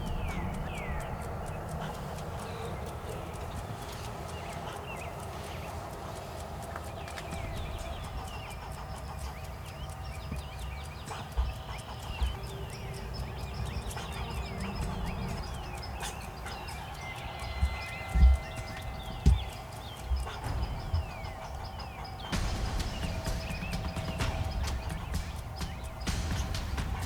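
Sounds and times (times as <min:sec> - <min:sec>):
bird chirps: 0:00.0 - 0:27.0
fine rapid clicking: 0:00.0 - 0:27.0
steady low rumble: 0:00.0 - 0:27.0.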